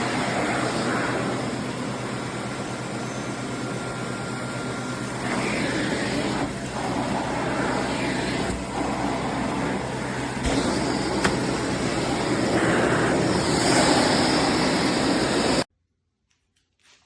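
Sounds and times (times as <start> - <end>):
vacuum cleaner running: 0.0 - 15.7.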